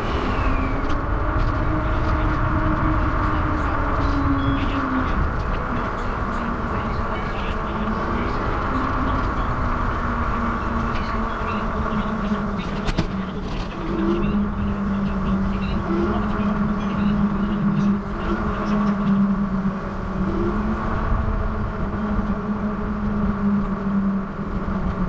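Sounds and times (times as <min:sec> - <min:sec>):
steady hum of bicycle ride: 0:00.0 - 0:25.0
wind rumbling on microphone: 0:00.0 - 0:25.0.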